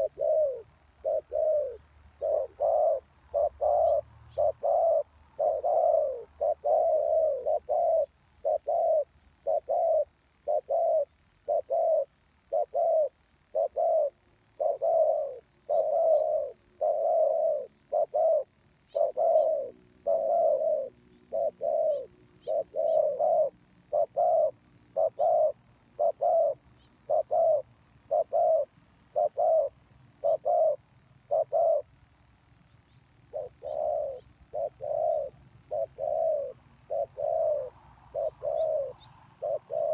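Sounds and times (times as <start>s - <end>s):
doves cooing: 0.0s - 32.0s, 33.2s - 39.9s.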